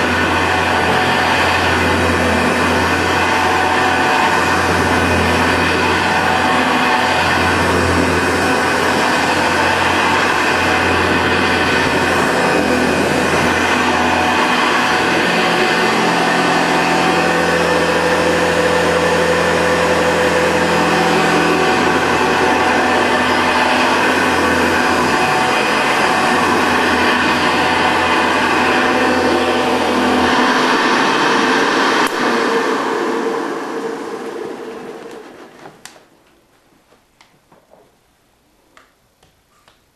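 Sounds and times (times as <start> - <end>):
vacuum cleaner running on carpet: 0.0 - 36.0.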